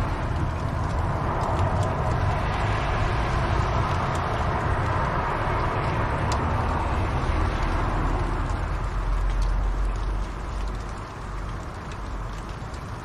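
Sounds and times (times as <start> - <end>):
fire crackles: 0.0 - 13.0.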